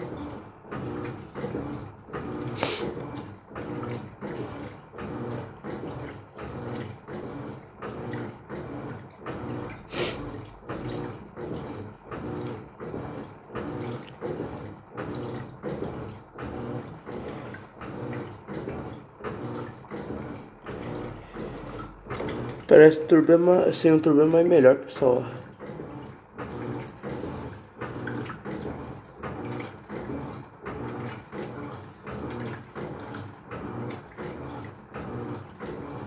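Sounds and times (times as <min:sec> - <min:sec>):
washing machine agitator sloshing: 0:00.0 - 0:36.0.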